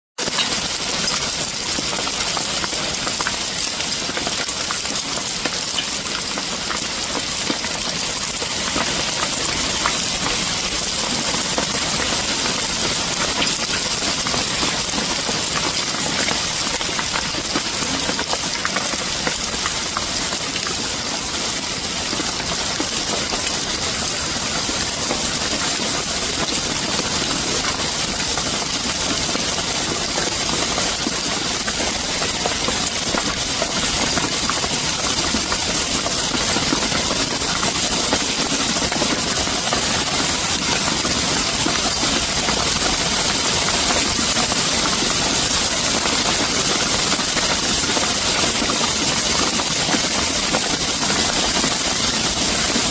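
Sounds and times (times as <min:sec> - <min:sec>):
rain falling: 0:00.2 - 0:52.9.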